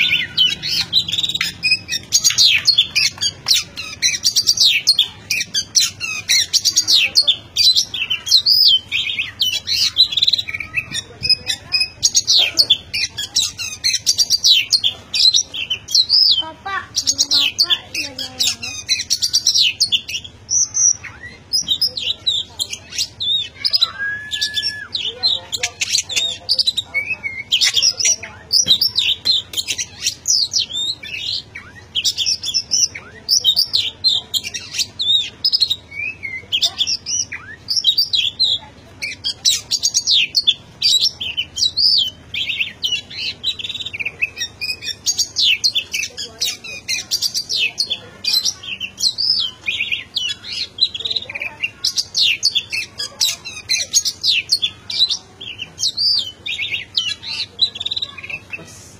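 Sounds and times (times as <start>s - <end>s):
bird singing varied high phrases: 0.0s - 58.7s.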